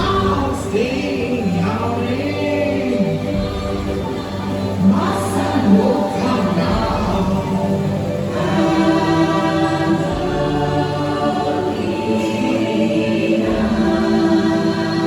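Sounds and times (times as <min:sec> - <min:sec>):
choir-like chanting: 0:00.0 - 0:15.0
soft music: 0:00.0 - 0:15.0.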